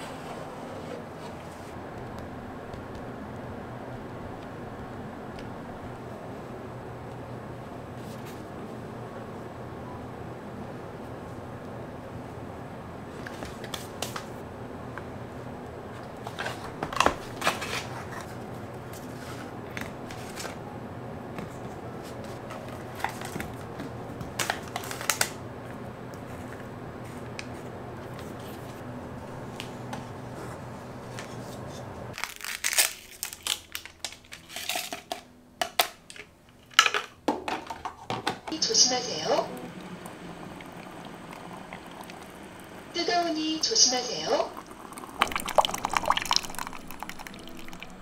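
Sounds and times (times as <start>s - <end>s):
steady low hum: 0.0s - 32.2s, 38.4s - 48.0s.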